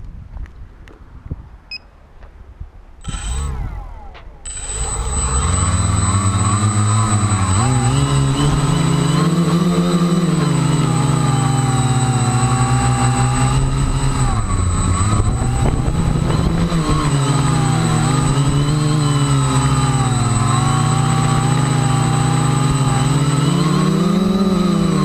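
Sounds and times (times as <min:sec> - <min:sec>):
high wind: 0:00.0 - 0:25.0
drone motors whining: 0:03.0 - 0:25.0.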